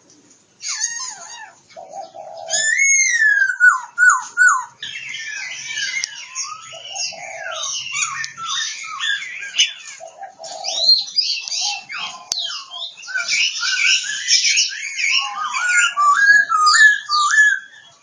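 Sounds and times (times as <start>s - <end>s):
bird singing whistles and chirps: 2.0s - 9.9s, 10.5s - 18.0s.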